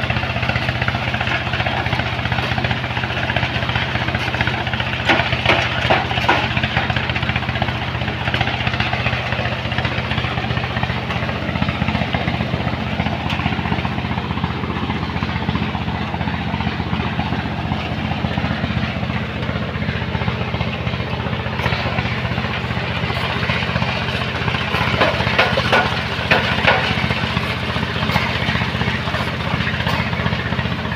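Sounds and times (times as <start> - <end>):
heavy machine engine droning: 0.0 - 30.9.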